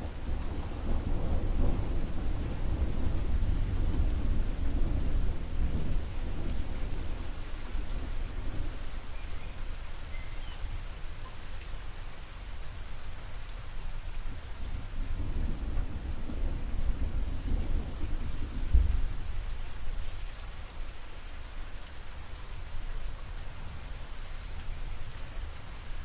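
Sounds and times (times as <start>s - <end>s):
steady rainfall: 0.0s - 26.0s
thunder rumbling: 0.0s - 26.0s.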